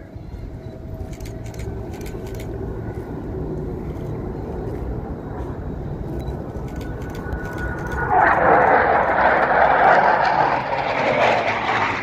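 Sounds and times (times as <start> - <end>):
distant jet engines rumble: 0.0 - 12.0.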